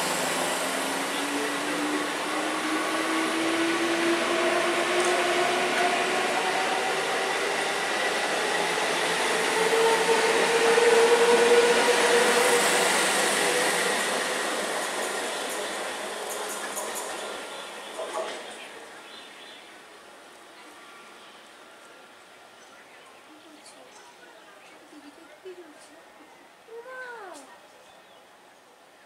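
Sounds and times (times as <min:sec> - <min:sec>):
wheels rushing on rail: 0:00.0 - 0:26.7.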